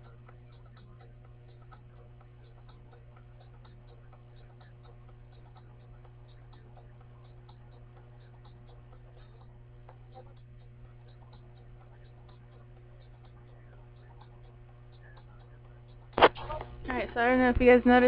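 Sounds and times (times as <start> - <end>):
low electrical hum: 0.0 - 18.0
regular ticking: 0.0 - 18.0.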